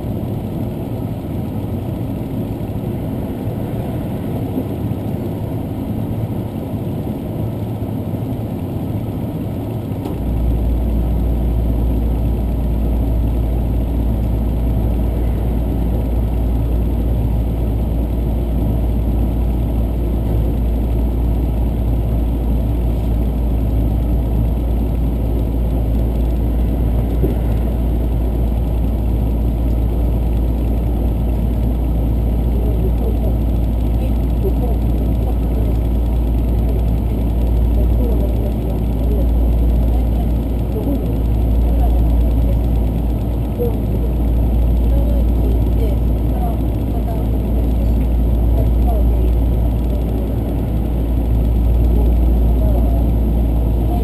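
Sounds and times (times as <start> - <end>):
deep loud hum: 0.0 - 54.0
train low rumble: 0.0 - 54.0.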